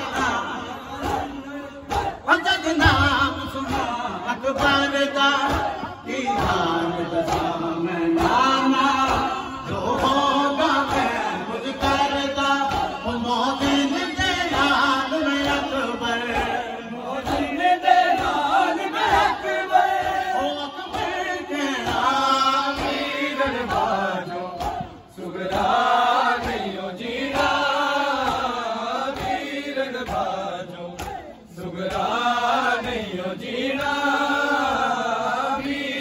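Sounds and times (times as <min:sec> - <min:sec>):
group of men chanting in unison: 0:00.0 - 0:36.0
man chanting over a microphone: 0:00.0 - 0:36.0
rhythmic chest-beating: 0:00.0 - 0:36.0.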